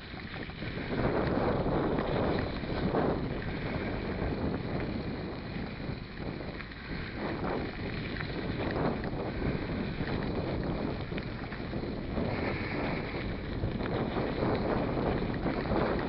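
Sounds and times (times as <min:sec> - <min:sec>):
bike rattling over dirt trail: 0:00.0 - 0:16.0
wind rumbling on microphone: 0:00.0 - 0:16.0.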